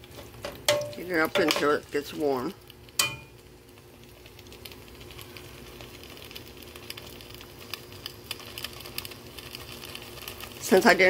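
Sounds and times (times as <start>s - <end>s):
sauce crackling and popping in pot: 0.0s - 11.0s
steady low hum: 0.0s - 11.0s.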